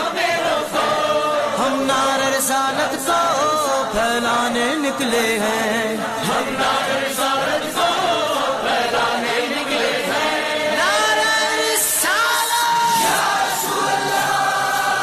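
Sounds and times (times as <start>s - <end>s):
chorus chanting: 0.0s - 15.0s.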